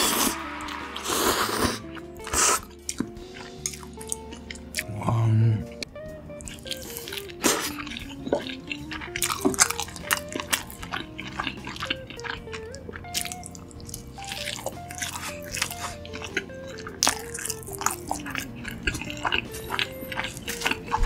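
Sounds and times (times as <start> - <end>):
crunchy bites and chewing: 0.0 - 5.3, 6.4 - 21.0
wet mouth clicks: 0.0 - 5.8, 6.4 - 21.0
background music: 0.0 - 21.0.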